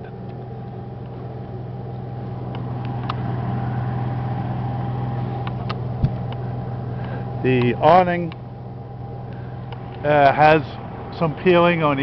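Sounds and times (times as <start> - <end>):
generator humming: 0.0 - 12.0.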